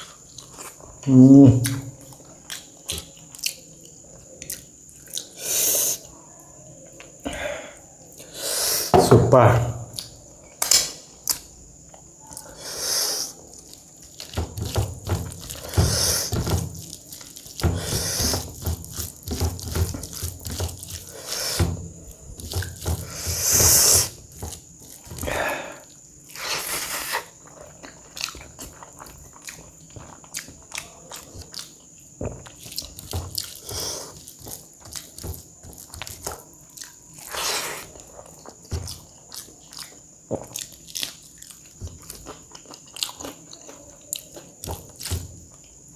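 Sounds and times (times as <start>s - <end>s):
wet chewing and smacking: 0.0s - 6.2s, 13.3s - 45.9s.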